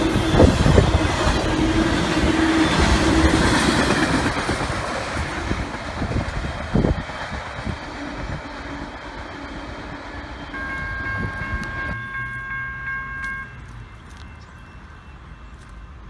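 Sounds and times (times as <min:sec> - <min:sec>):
freight train wheels clacking: 0:00.0 - 0:16.0.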